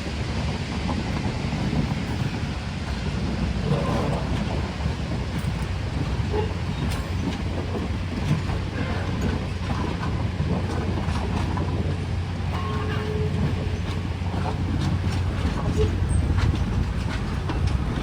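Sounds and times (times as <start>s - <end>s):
train rumbling past: 0.0s - 18.0s
wheels clicking on rails: 0.0s - 18.0s.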